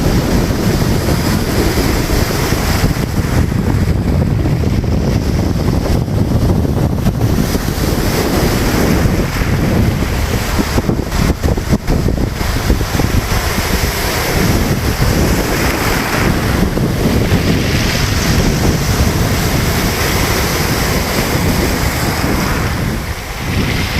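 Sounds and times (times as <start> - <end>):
waves breaking: 0.0 - 23.9
wind buffeting microphone: 0.0 - 23.9.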